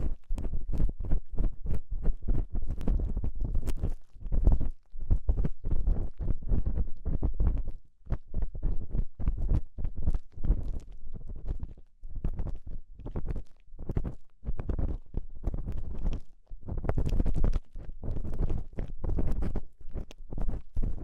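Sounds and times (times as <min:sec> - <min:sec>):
ear pick scratching microphone: 0:00.0 - 0:21.0.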